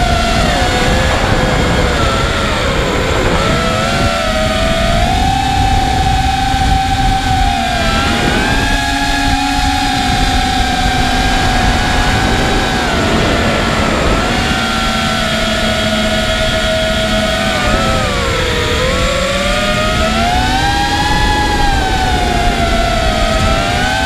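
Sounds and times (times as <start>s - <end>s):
drone motors whining: 0.0s - 24.0s
wind on microphone: 0.0s - 24.0s.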